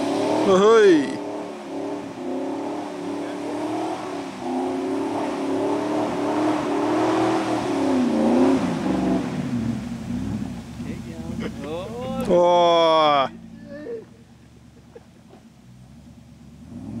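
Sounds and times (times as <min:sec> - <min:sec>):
suv engine revving in mud: 0:00.0 - 0:17.0.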